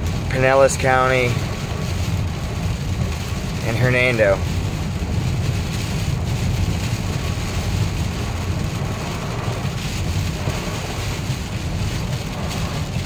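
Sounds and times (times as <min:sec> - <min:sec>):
heavy rain hiss: 0:00.0 - 0:13.0
hurricane wind buffeting microphone: 0:00.0 - 0:13.0.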